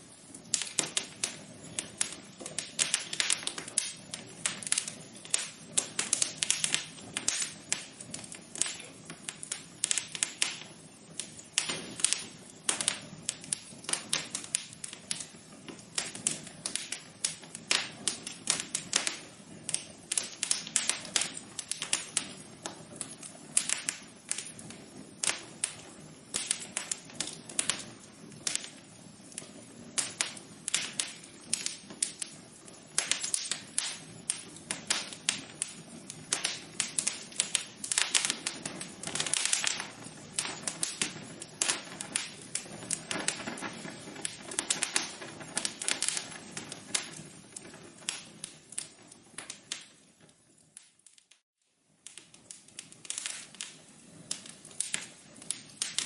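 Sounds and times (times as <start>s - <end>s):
low hiss of burning: 0.0s - 56.0s
wood fire crackling and popping: 0.0s - 56.0s.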